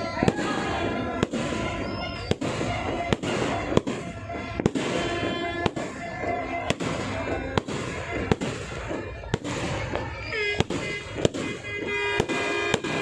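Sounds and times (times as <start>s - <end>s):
crowd voices: 0.0s - 13.0s
fireworks bangs: 0.0s - 13.0s.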